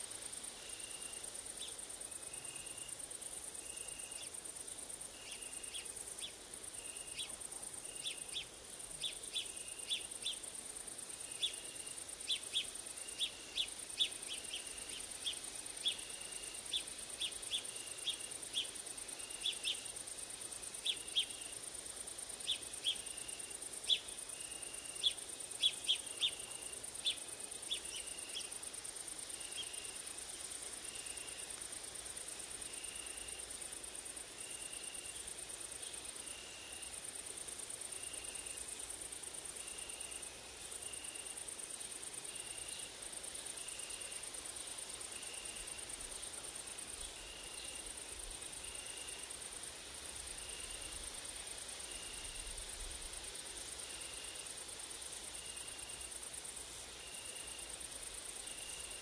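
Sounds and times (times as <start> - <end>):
insect trill: 0.3 - 59.0.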